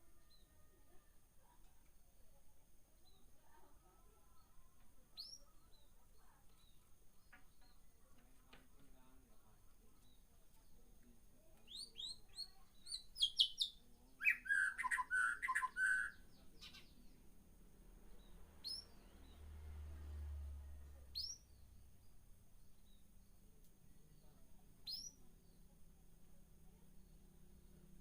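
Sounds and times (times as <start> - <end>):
caged birds chirping: 0.0 - 28.0.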